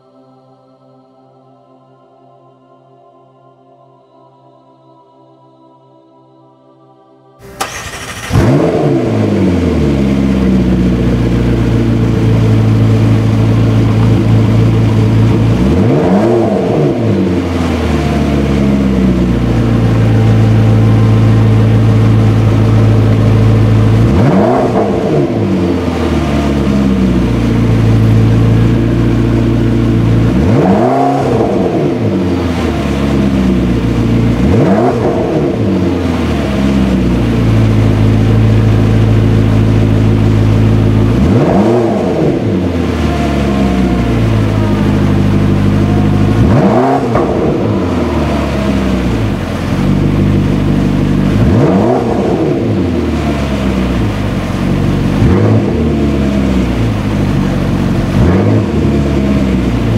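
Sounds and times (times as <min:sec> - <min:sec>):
sports car engine idling and revving: 0:07.4 - 0:59.9.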